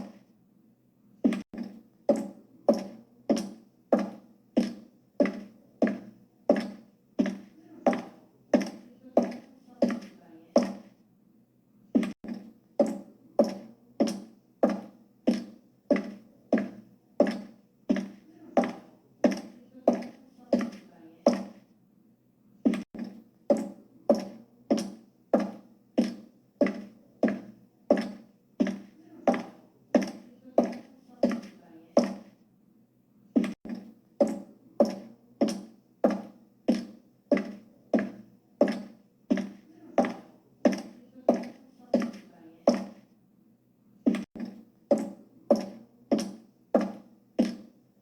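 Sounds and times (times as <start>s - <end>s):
high heels clicking on hard floor: 1.2s - 10.9s, 12.0s - 21.6s, 22.7s - 32.4s, 33.4s - 43.0s, 44.1s - 47.7s.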